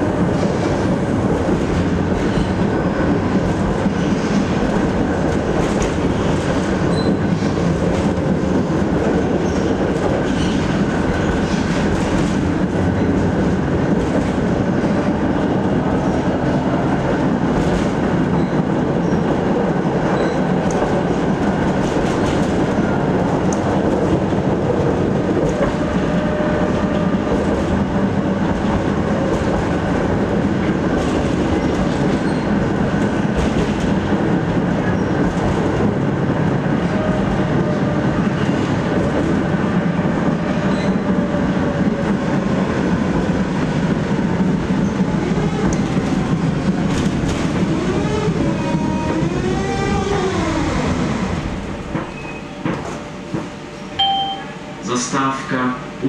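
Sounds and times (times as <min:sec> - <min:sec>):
tram wheels rumbling on rail: 0:00.0 - 0:56.0.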